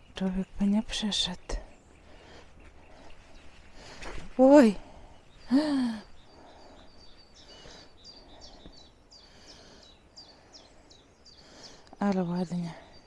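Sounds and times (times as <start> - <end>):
faint outdoor background: 0.0 - 13.0
small bird chirping: 0.0 - 13.0.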